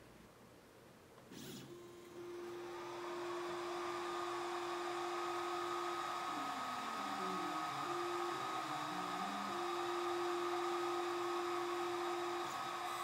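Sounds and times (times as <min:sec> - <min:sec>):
stepper motors whining: 0:01.4 - 0:13.0
cooling fan whirring: 0:01.7 - 0:13.0.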